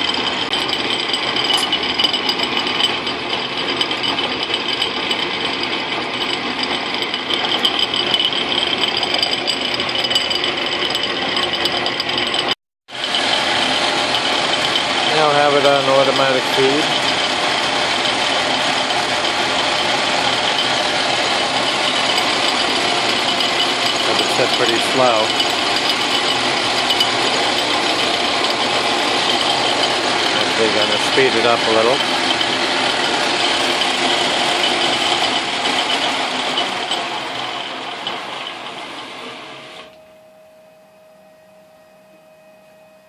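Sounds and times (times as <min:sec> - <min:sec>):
metal lathe humming and cutting: 0:00.0 - 0:40.0.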